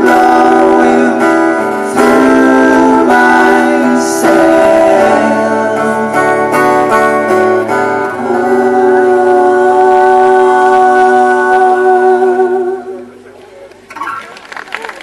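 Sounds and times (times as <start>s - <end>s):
man singing: 0.0s - 13.1s
acoustic guitar strumming: 0.0s - 13.2s.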